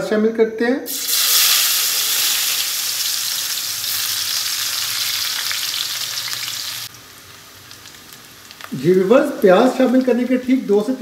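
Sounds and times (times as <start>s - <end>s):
onion sizzling in hot oil: 0.9s - 11.0s.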